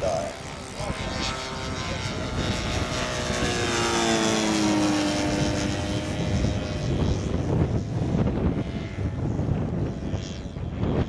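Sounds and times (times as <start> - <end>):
model airplane engines passing: 0.0 - 11.0.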